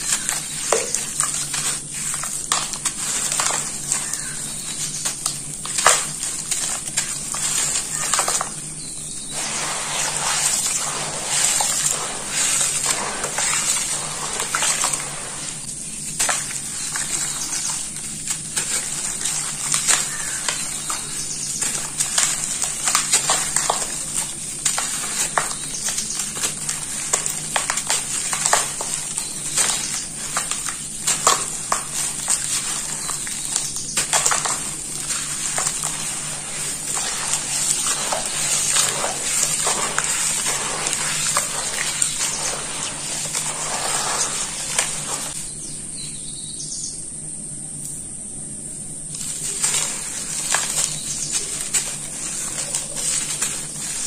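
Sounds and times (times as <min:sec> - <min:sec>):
hands sloshing through mud: 0:00.0 - 0:45.4, 0:49.2 - 0:54.0
dirt crumbling into water: 0:00.0 - 0:45.5, 0:49.1 - 0:54.0.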